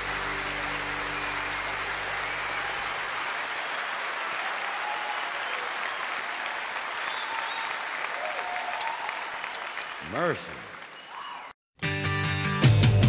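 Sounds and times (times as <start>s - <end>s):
audience applauding: 0.0s - 11.5s
audience cheering: 0.0s - 11.6s.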